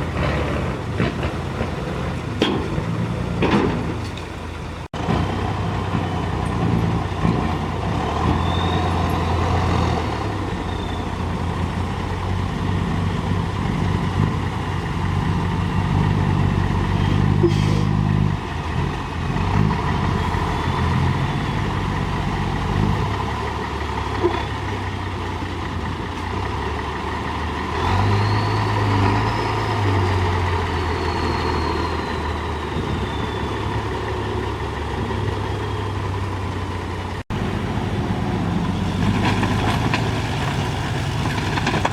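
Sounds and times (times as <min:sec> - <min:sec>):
diesel engine revving: 0:00.0 - 0:41.9.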